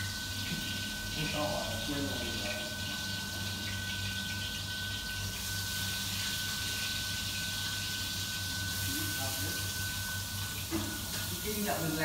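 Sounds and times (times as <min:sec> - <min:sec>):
kitchen equipment hum and hiss: 0:00.0 - 0:12.0.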